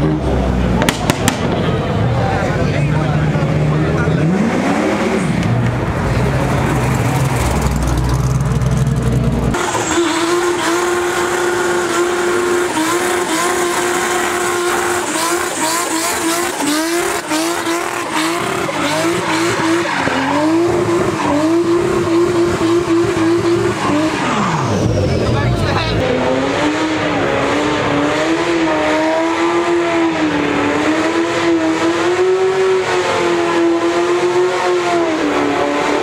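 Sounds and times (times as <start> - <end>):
car engine revving high: 0.0 - 36.0
car engine rumbling: 0.0 - 36.0.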